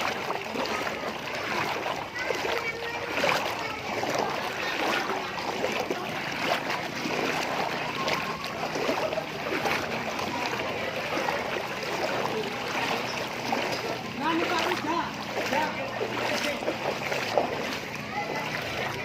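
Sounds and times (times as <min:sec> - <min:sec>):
water flowing with splashes: 0:00.0 - 0:19.0.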